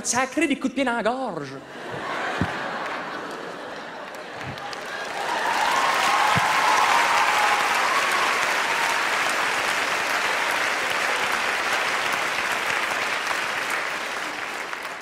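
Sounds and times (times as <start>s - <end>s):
audience applauding: 2.0s - 15.0s.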